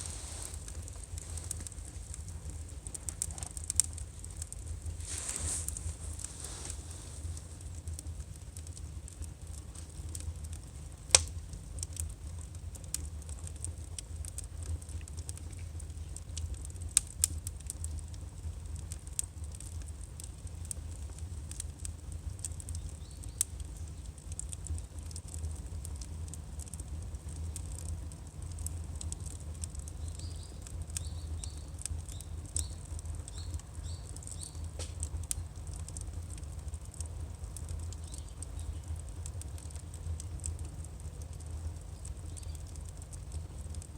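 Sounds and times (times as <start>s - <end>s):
firewood crackling and popping: 0.0s - 43.9s
low fire rumble: 0.0s - 43.9s.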